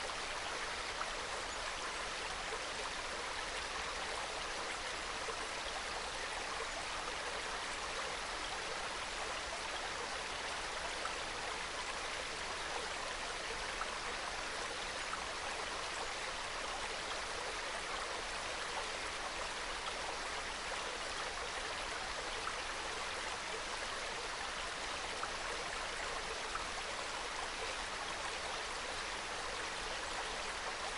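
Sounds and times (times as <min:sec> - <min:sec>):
stream babbling over rocks: 0:00.0 - 0:30.9.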